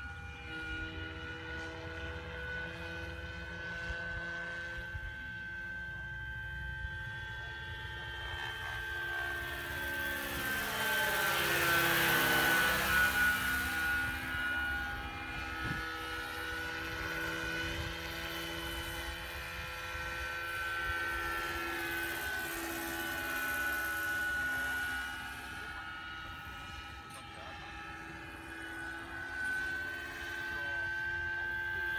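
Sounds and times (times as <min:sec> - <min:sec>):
model helicopter whine: 0:00.0 - 0:31.9.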